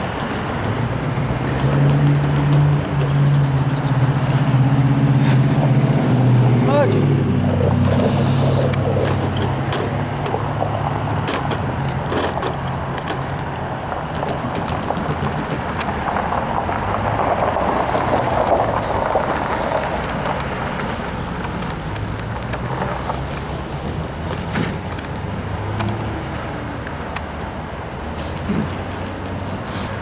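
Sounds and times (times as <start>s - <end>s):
train cars clicking and banging: 0.0s - 26.2s
train wheels rumbling on rail: 0.0s - 30.0s.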